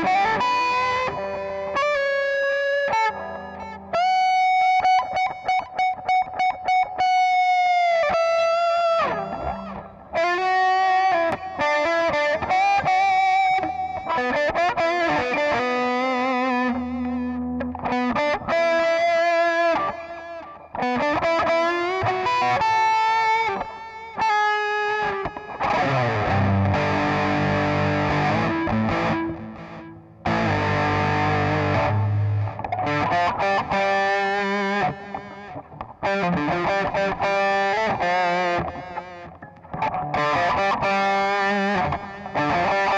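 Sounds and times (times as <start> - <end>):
overdriven electric guitar: 0.0 - 42.9.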